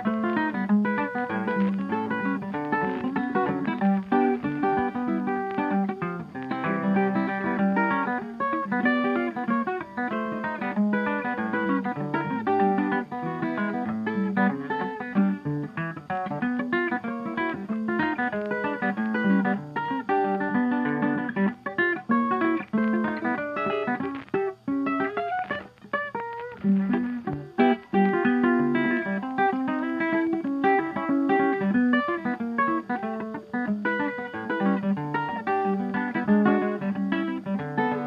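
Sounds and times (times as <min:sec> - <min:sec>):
plucked guitar melody: 0:00.0 - 0:38.0.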